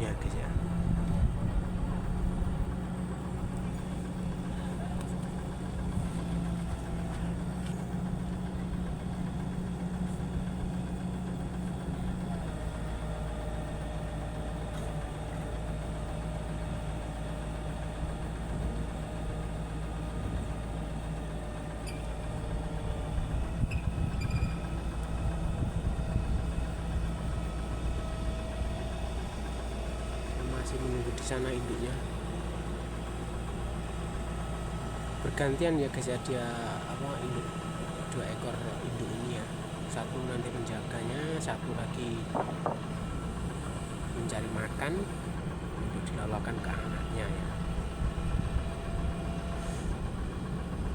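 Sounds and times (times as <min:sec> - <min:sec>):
engine idling hum: 0:00.0 - 0:50.9.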